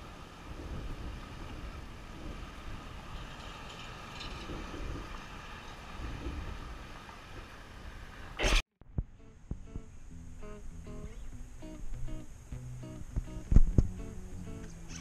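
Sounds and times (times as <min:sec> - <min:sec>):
background rumble: 0:00.0 - 0:15.0
wind buffeting microphone: 0:00.0 - 0:15.0.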